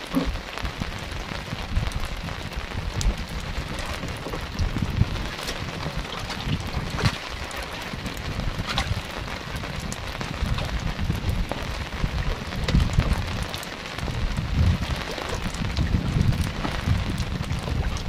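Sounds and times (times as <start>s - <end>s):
heavy rain on water and boat: 0.0s - 18.0s
low gusty rumble: 0.0s - 18.0s
rain drops ticking: 0.0s - 18.0s.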